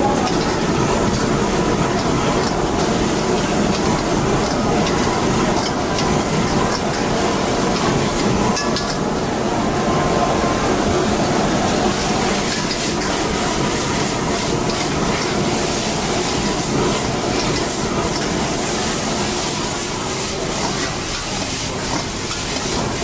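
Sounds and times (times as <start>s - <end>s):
food sizzling in a wok: 0.0s - 23.0s
roaring gas burner: 0.0s - 23.0s.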